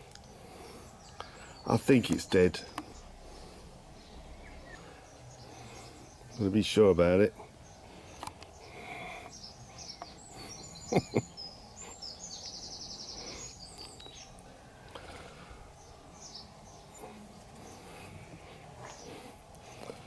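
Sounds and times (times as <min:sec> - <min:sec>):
birds chirping: 0:00.0 - 0:20.0
high bird trill: 0:00.6 - 0:19.8.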